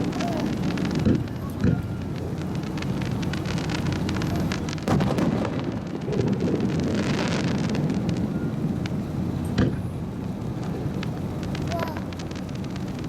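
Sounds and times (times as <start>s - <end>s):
firework boom: 0.0s - 13.0s
firework crackling: 0.0s - 13.0s
low rumble: 0.0s - 13.0s.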